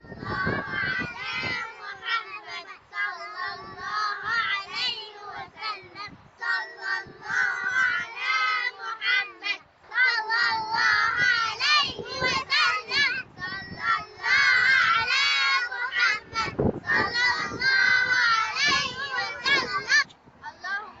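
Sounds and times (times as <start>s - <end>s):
children singing: 0.0s - 20.1s.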